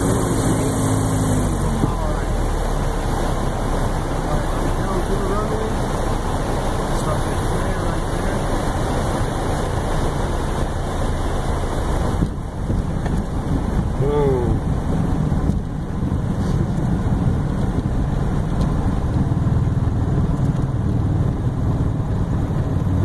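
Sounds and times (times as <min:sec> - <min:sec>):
propeller plane engine running: 0:00.0 - 0:23.0.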